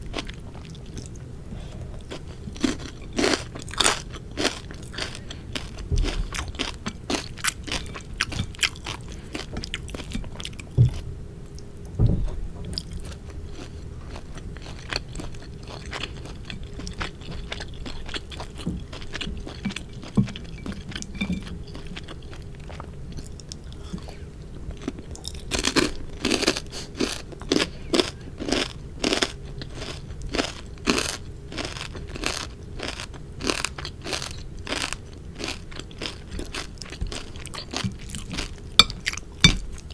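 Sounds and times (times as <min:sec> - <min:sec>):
chewing with crisp crunches: 0:00.0 - 0:11.9, 0:12.7 - 0:39.9.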